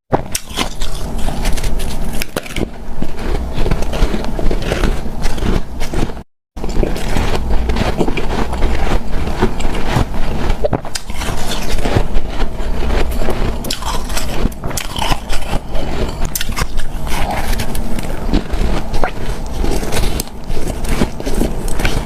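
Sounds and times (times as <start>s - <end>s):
person crunching ice: 0.2s - 22.0s.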